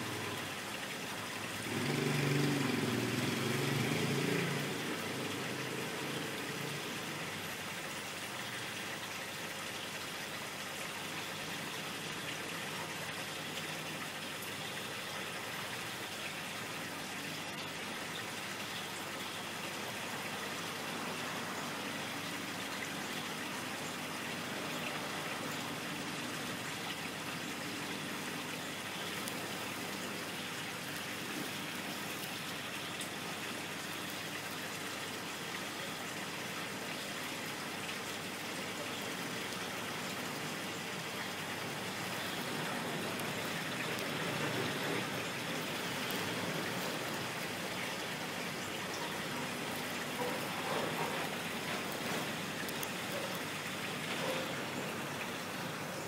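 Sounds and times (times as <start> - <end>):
aquarium water trickling: 0.0 - 56.0.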